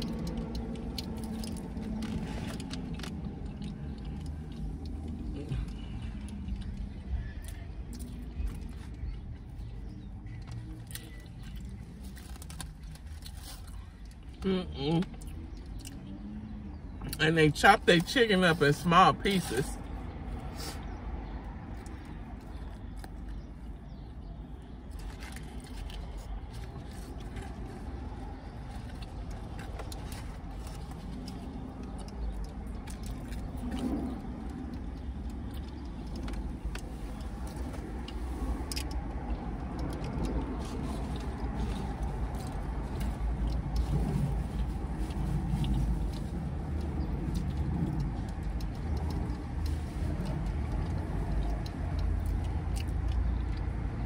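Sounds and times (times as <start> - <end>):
chewing and eating: 0.0 - 54.0.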